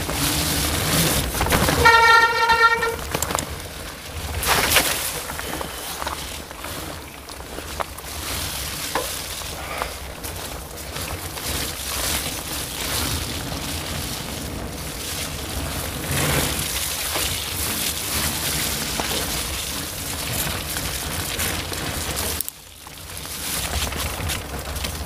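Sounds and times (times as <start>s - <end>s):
tyre and trail rumble: 0.0s - 25.0s.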